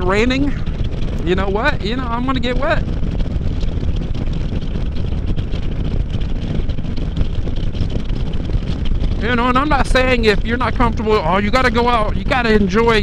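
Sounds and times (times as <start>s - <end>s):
motorcycle engine droning: 0.0s - 13.0s
wind rushing over microphone: 0.0s - 13.0s.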